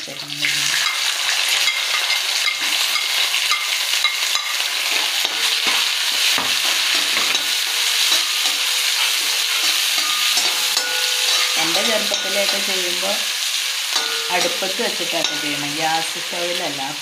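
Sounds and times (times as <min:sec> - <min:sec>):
vegetables sizzling in hot oil: 0:00.0 - 0:17.0
metal spoon scraping a pan: 0:00.7 - 0:16.6.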